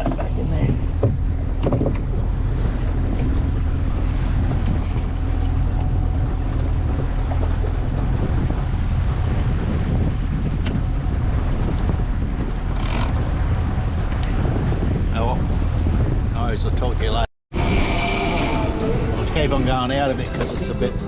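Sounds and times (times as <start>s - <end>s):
boat motor running: 0.0s - 21.0s
sea rushing: 0.0s - 21.0s
wind buffeting microphone: 0.0s - 21.0s.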